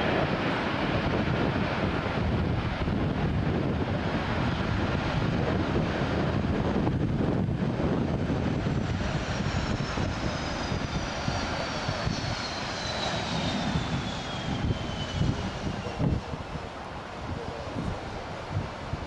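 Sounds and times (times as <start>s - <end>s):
high engine whine: 0.0s - 18.6s
airliner engine roar: 0.0s - 19.0s.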